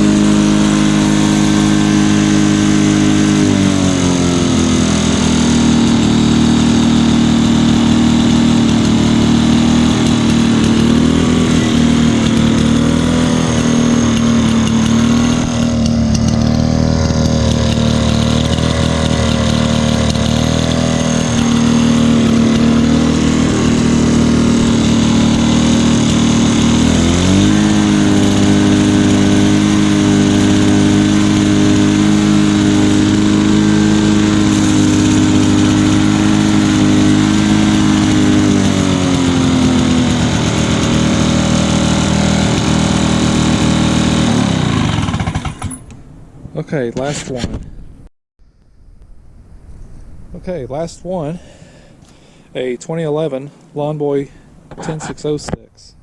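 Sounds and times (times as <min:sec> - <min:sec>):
lawn mower engine running: 0:00.0 - 0:47.1, 0:48.8 - 0:55.6.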